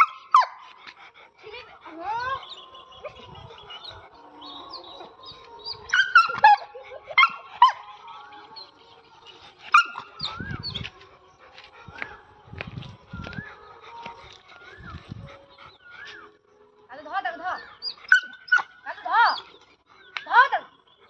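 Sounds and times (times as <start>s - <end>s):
animals whining and yelping: 0.0s - 21.0s.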